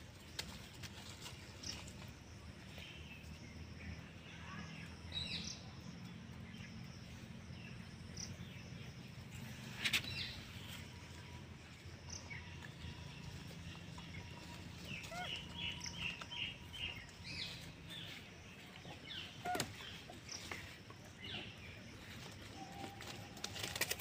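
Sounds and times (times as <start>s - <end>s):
steady low hum: 0.0s - 23.5s.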